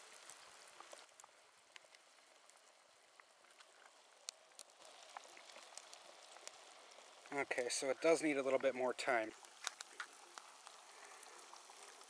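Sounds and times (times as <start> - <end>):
faint hiss: 0.0 - 12.0
light ticks and crackles: 0.0 - 12.0.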